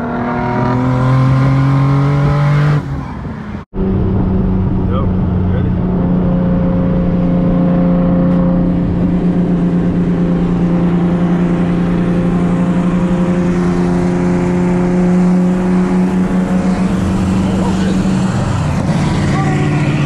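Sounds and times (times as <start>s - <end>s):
car engine droning: 0.0s - 20.0s
road noise: 0.0s - 20.0s.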